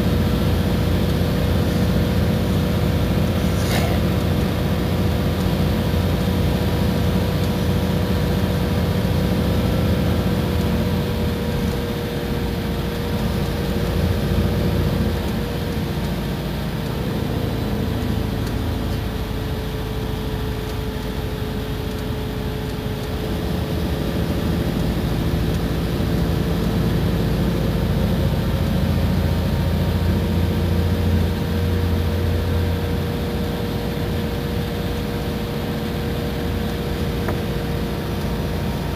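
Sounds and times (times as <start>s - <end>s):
bus engine droning with whine: 0.0s - 38.9s
road rumble: 0.0s - 38.9s.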